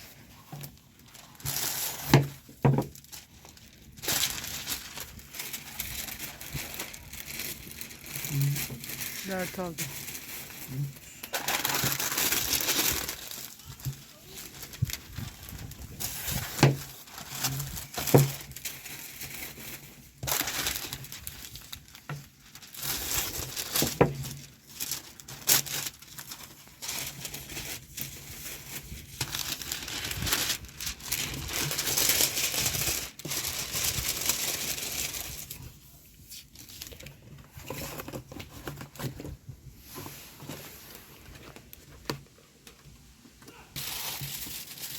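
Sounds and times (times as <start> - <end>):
wrapping material crinkling: 0.0 - 42.9, 43.5 - 44.9.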